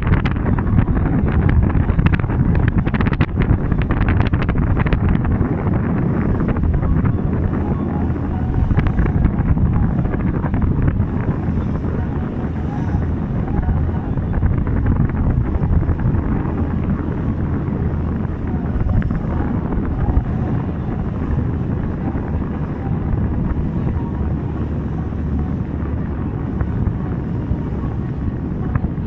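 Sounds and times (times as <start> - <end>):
boat engine droning: 0.0 - 29.0
wind buffeting microphone: 0.0 - 29.0.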